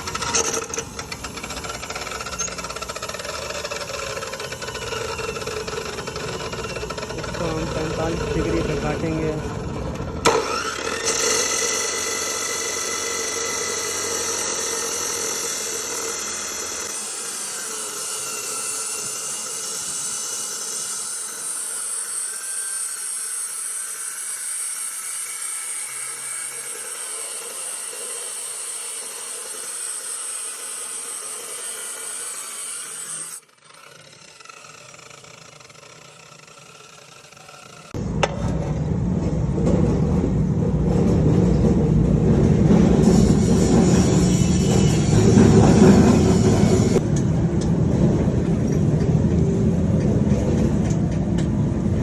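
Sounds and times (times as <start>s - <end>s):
cutting disc whining through steel: 0.0s - 52.0s.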